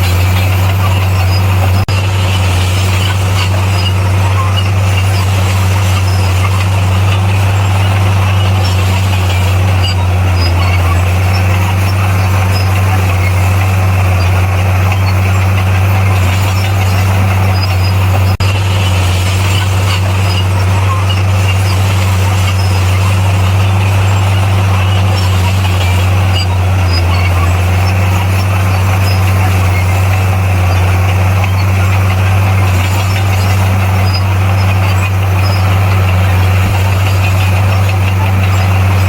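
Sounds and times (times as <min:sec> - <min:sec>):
bulldozer diesel engine droning: 0:00.0 - 0:39.0.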